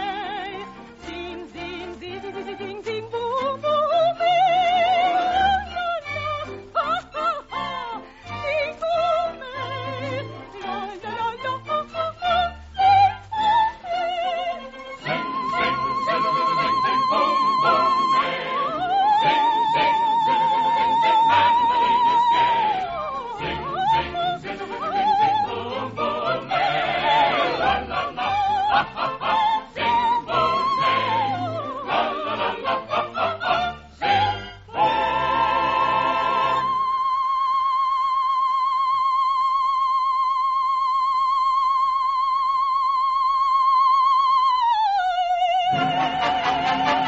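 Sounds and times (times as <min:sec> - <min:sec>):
orchestral accompaniment: 0:00.0 - 0:36.8, 0:45.6 - 0:47.0
operatic soprano singing: 0:00.0 - 0:47.0.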